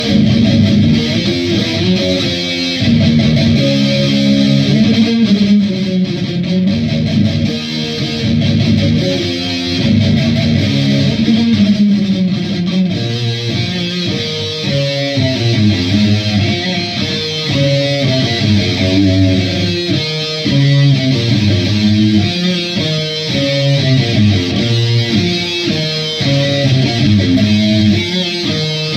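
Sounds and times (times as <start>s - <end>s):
distorted electric guitar riffs: 0.0s - 28.9s.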